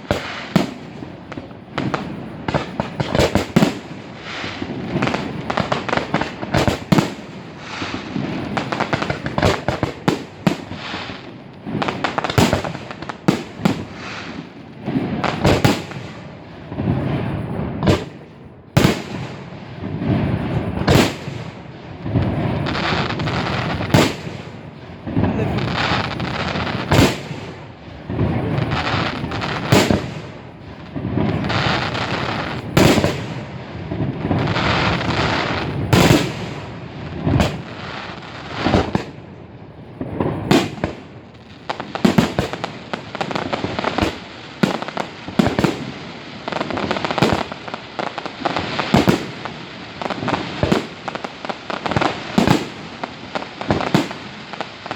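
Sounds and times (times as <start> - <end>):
firework bangs: 0.0 - 54.9
fireworks crackling and rumbling: 0.0 - 54.9.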